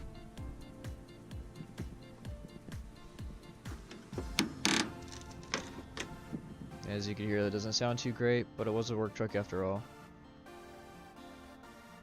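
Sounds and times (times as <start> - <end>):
quiet electronic music: 0.0 - 12.0.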